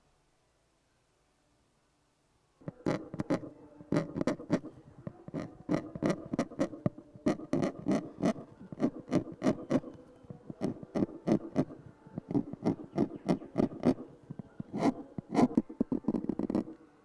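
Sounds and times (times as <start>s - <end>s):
stylus scratching lacquer: 2.6s - 16.8s.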